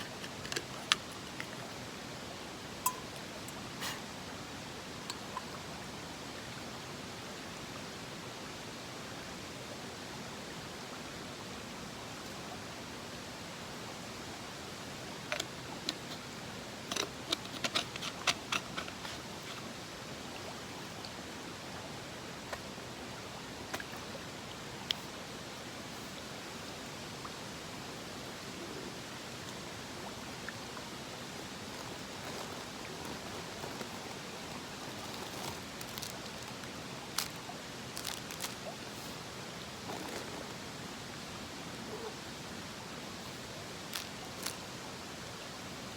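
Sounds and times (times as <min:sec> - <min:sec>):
mountain stream rushing: 0:00.0 - 0:45.9.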